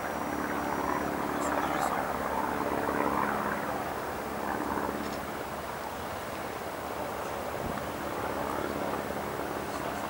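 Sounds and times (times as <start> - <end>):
propeller plane engine hum: 0.0 - 10.0.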